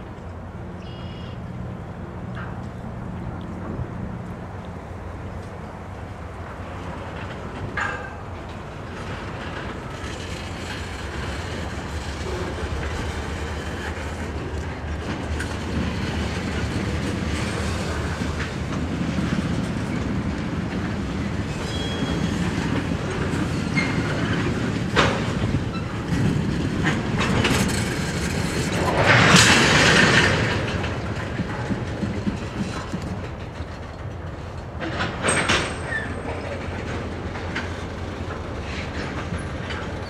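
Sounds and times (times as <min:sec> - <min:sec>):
train wheels clacking on rails: 0:05.3 - 0:40.0.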